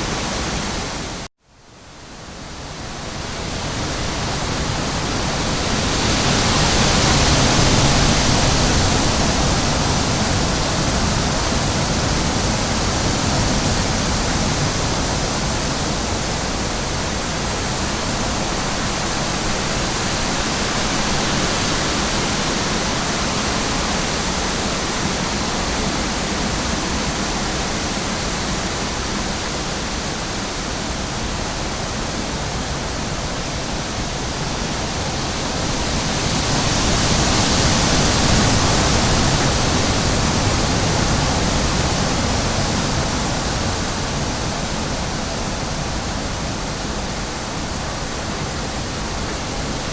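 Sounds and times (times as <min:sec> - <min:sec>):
steady rushing nature ambience: 0:00.0 - 0:49.9.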